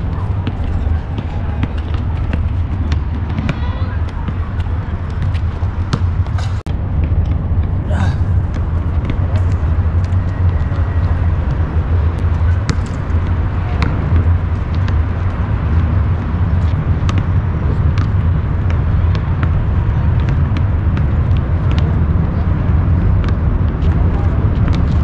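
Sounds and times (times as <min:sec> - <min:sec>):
basketballs bouncing on asphalt: 0:00.0 - 0:25.0
steady low rumble: 0:00.0 - 0:25.0.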